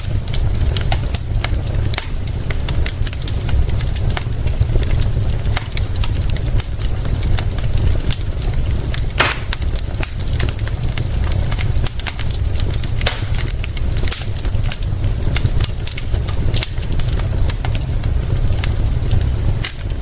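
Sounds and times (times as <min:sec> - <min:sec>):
low rumble and hiss: 0:00.0 - 0:20.0
sharp snaps and pops: 0:00.0 - 0:20.0
wood fire crackling: 0:00.0 - 0:20.0.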